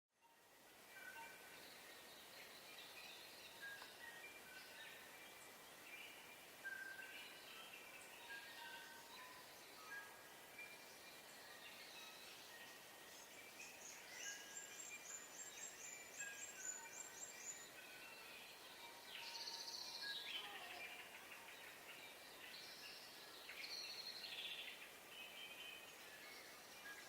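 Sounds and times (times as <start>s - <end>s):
soft steady hiss: 0.2s - 27.0s
bird warbling song: 0.3s - 27.0s.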